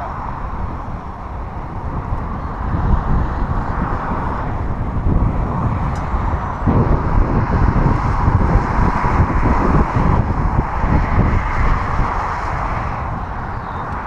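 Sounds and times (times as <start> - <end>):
rolling road noise: 0.0 - 14.0
wind buffeting microphone: 0.0 - 14.0.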